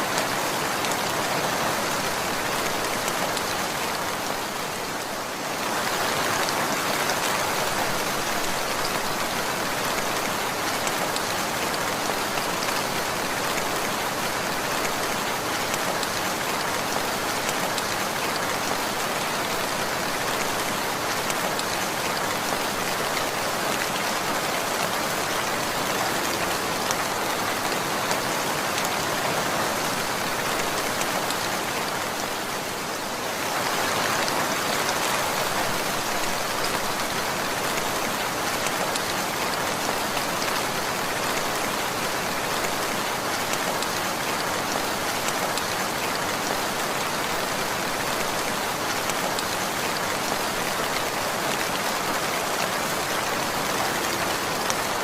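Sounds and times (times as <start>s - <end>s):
rain pattering on surfaces: 0.0s - 55.0s.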